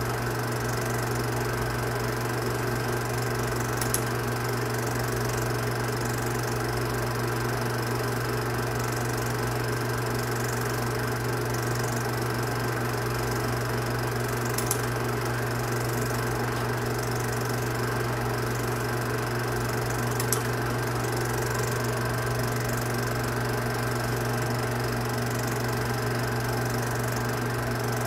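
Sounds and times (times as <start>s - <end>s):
film projector running: 0.0s - 28.0s.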